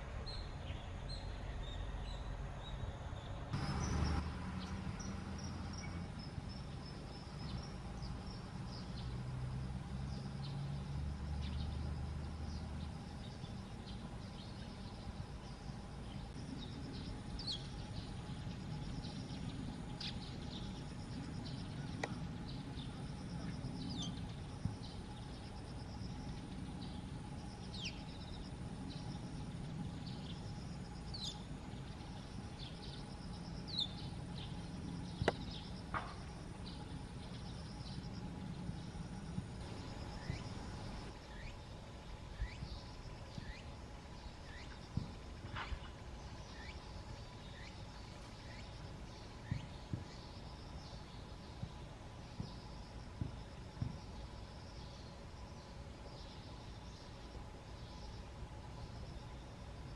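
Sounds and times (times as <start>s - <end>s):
insects humming: 0.0s - 59.9s.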